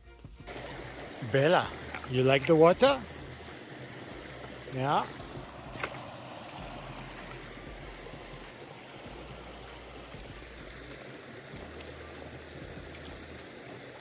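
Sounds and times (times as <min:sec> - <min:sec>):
creek trickling over stones: 0:00.4 - 0:14.0.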